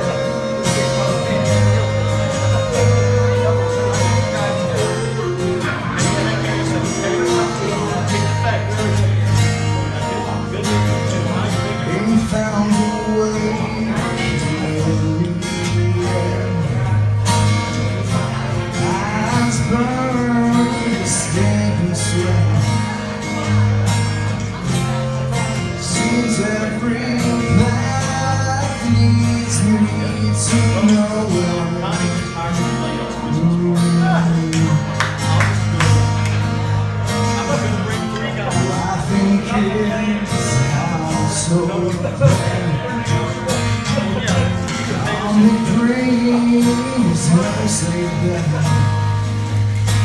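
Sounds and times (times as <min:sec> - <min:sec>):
acoustic guitar rock music: 0:00.0 - 0:50.0.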